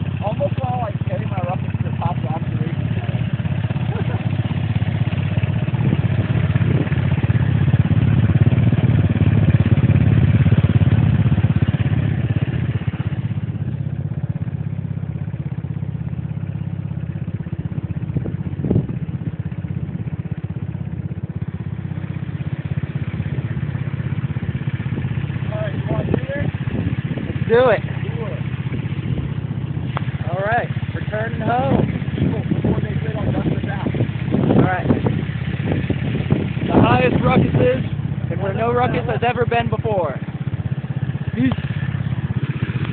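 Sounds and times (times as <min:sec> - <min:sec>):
scooter engine idling: 0:00.0 - 0:42.9.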